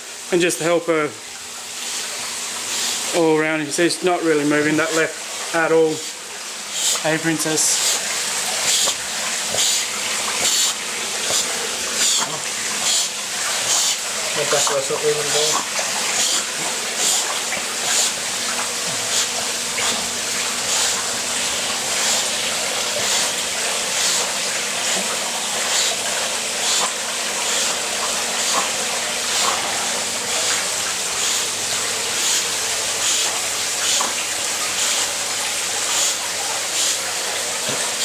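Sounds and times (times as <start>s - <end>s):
pool water rushing: 0.0s - 38.0s
dog paddling splashes: 1.2s - 38.0s.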